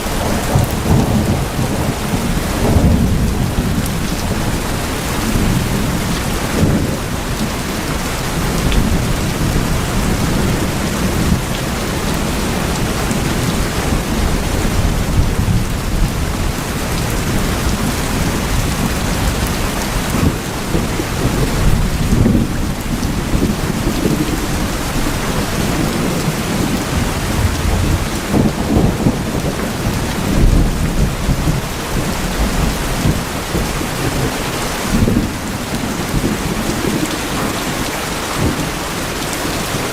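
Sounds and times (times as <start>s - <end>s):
heavy rain on tin roofs: 0.0s - 39.9s.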